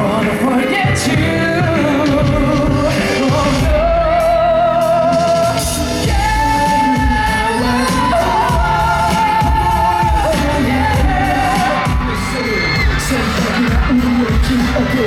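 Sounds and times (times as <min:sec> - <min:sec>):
band and backing track: 0:00.0 - 0:15.0
man singing ballad with vibrato: 0:00.0 - 0:15.0.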